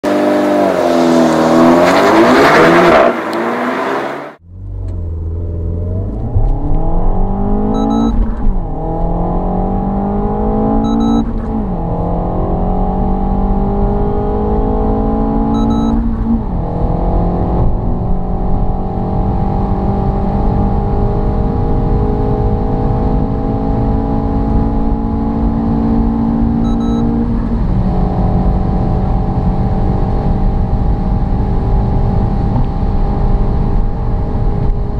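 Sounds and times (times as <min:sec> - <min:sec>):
car engine accelerating with upshifts: 0:00.0 - 0:34.9.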